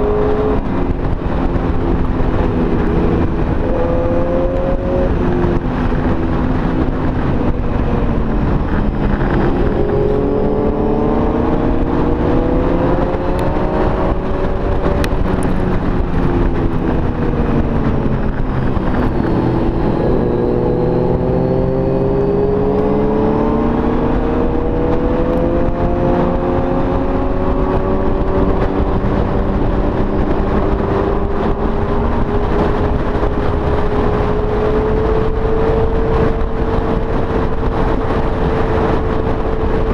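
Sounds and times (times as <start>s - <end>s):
low wind rumble: 0.0s - 39.9s
motorcycle engine at speed: 0.0s - 39.9s.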